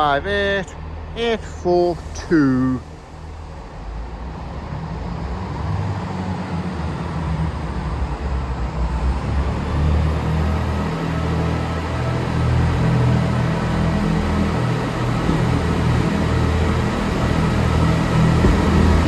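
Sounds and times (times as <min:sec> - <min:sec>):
diesel train engine running: 0:00.0 - 0:19.0.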